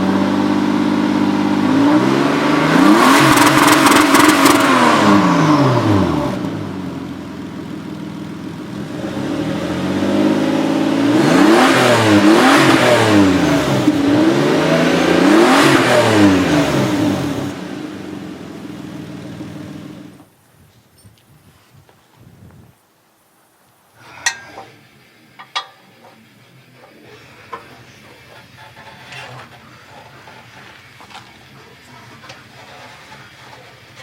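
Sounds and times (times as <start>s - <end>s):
car engine revving and idling: 0.0s - 20.3s, 24.0s - 34.0s.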